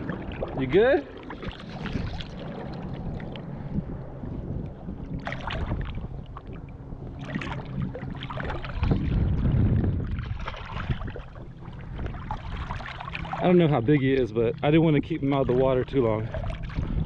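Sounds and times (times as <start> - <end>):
short splashes: 0.0 - 3.8, 5.0 - 17.0
water sloshing: 0.0 - 17.0
wind on microphone: 0.0 - 17.0.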